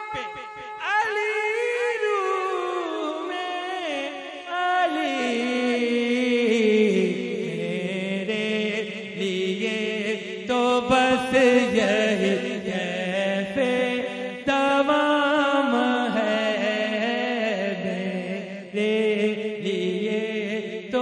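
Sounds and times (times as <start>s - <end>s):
man singing melismatic phrases: 0.0s - 21.0s.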